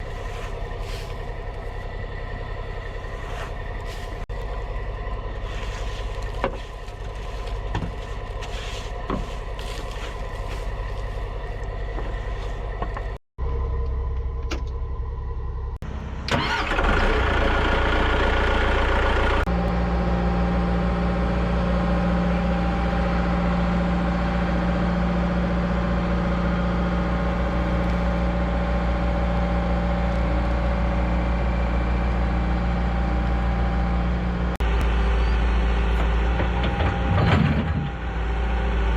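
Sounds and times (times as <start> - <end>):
diesel engine running: 0.0 - 38.9
diesel engine starting: 0.0 - 38.9.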